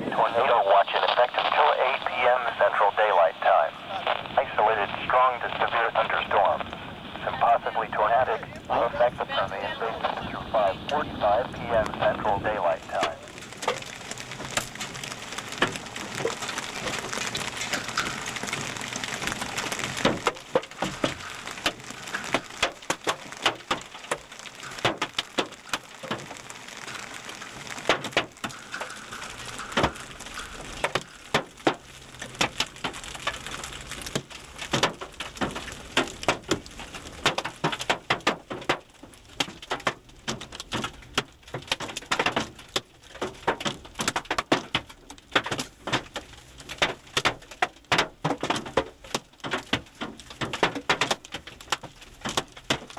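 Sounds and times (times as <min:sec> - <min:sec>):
rushing hail and wind: 0:00.0 - 0:52.9
hailstones pelting a vehicle: 0:00.1 - 0:52.9.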